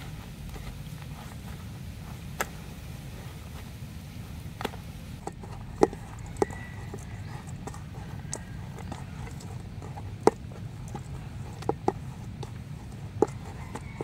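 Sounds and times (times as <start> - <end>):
low background rumble: 0.0 - 14.0
spatula working dough: 0.0 - 14.0.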